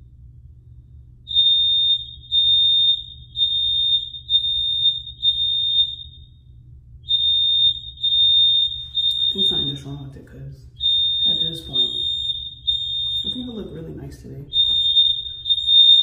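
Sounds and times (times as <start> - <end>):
fire alarm pulsing tone: 0.6 - 16.0.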